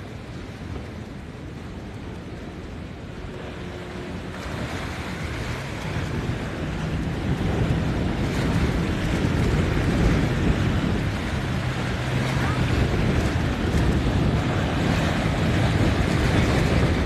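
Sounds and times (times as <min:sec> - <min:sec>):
boat engine hum: 0:00.0 - 0:17.0
surf: 0:00.0 - 0:17.0
wind buffeting microphone: 0:00.0 - 0:17.0.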